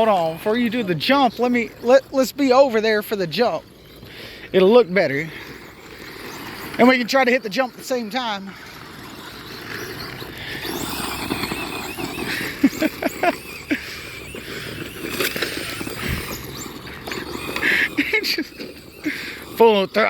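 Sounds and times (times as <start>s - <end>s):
rc truck electric motors whining: 0.0s - 20.0s.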